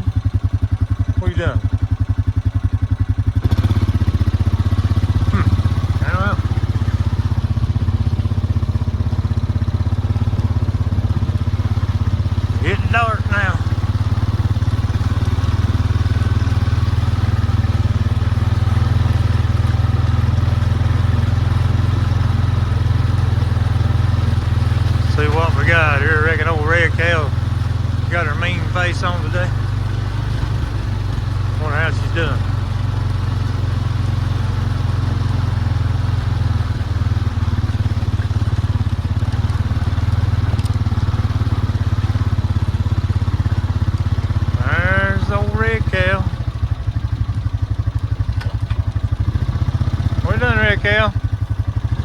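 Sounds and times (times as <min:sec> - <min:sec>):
vehicle engine idling: 0:00.0 - 0:52.0.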